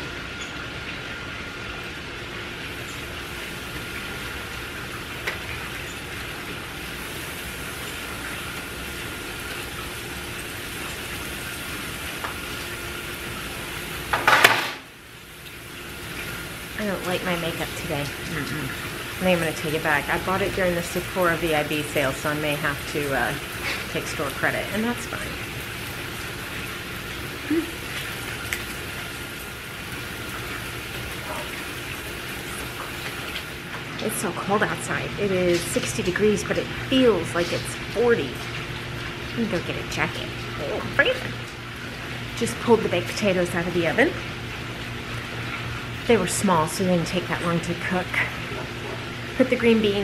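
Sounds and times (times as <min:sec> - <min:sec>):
steaks searing on grill: 0:02.4 - 0:50.0.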